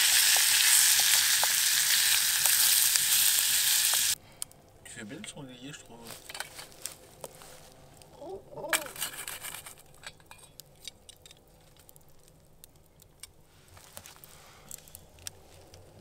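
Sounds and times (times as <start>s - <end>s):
campfire crackling and popping: 0.0s - 4.8s, 5.9s - 16.0s.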